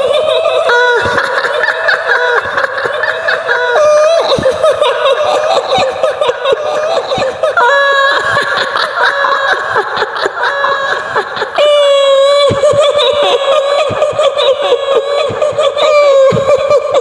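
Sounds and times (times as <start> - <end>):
women cackling laughter: 0.0 - 17.0.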